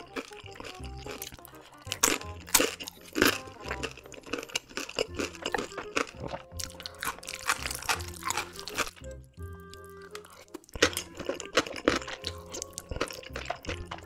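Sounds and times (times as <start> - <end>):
crunchy chewing: 0.0 - 9.0, 9.7 - 14.0
background music: 0.0 - 14.0.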